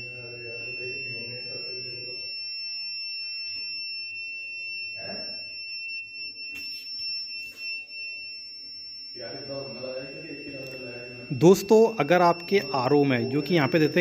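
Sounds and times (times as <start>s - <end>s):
high-pitched alarm beep: 0.0s - 14.0s.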